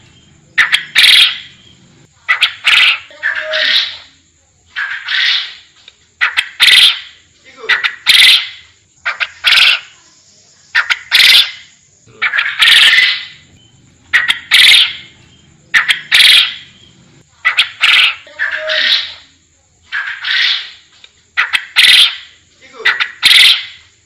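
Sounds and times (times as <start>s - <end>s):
quail calling: 0.0s - 4.1s, 4.7s - 10.0s, 10.7s - 19.3s, 19.9s - 23.9s.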